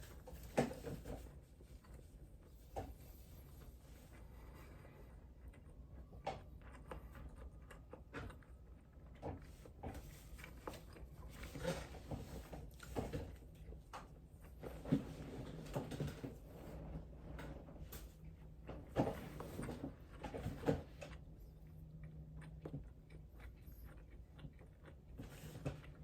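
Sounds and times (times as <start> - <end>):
close chewing: 0.0 - 16.4, 18.0 - 26.0.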